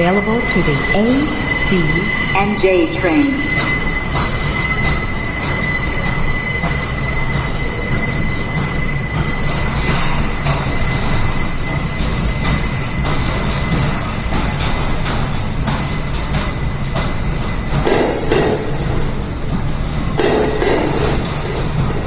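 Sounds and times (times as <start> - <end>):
high-pitched wheel squeal: 0.0 - 19.4
subway wheels rumbling on rail: 0.0 - 22.0.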